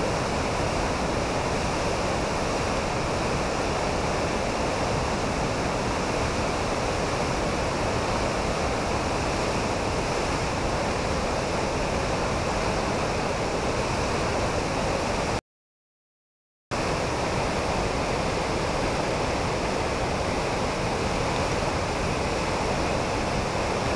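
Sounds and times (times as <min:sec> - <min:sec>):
river rushing over boulders: 0:00.0 - 0:15.4, 0:16.8 - 0:23.9.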